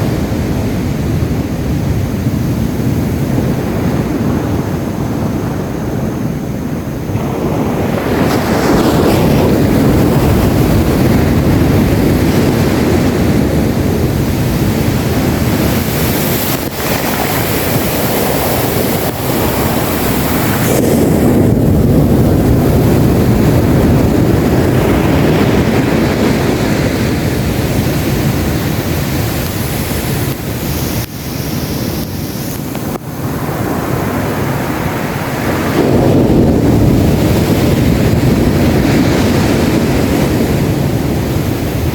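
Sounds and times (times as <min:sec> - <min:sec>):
sea waves breaking on beach: 0:00.0 - 0:41.9
wind buffeting microphone: 0:00.0 - 0:41.9.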